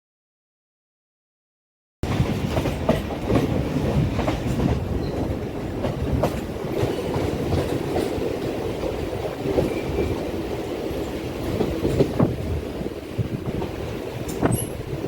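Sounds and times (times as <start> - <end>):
train rumbling on track: 2.0 - 15.0
wheels clacking over rail joints: 2.1 - 15.0.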